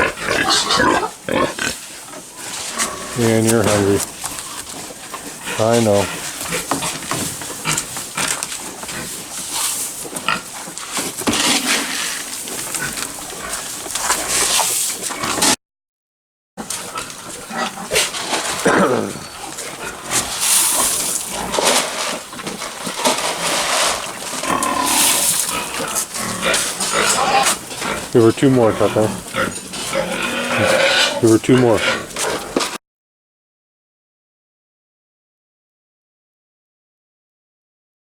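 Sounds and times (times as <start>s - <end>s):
pigs squealing and grunting: 0.0s - 15.6s, 16.6s - 32.8s.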